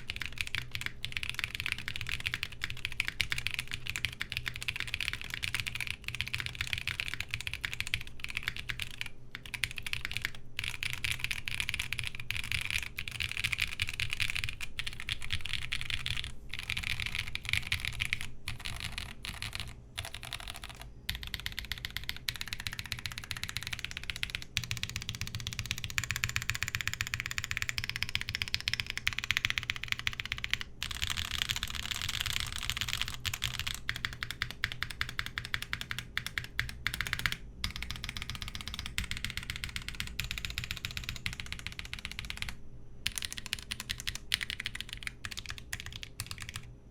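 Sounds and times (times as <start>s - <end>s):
mechanical keyboard typing: 0.0s - 46.7s.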